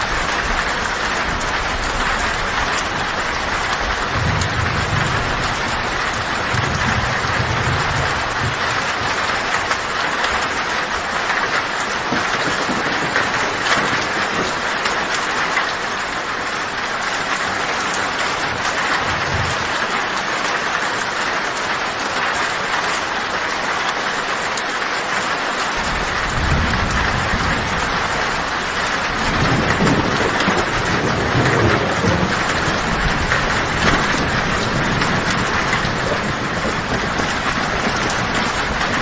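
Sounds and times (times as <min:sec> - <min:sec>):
low thunder rumbling: 0:00.0 - 0:21.2, 0:25.7 - 0:39.0
heavy rain on a tin roof: 0:00.0 - 0:39.0.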